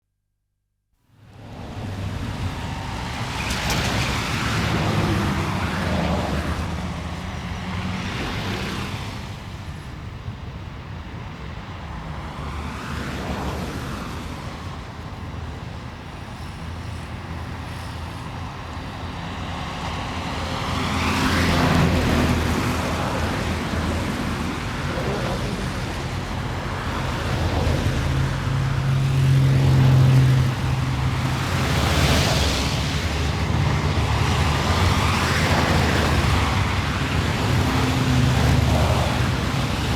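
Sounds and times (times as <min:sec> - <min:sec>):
low rumble of engines: 0:01.1 - 0:39.9
cars passing by: 0:01.2 - 0:39.9.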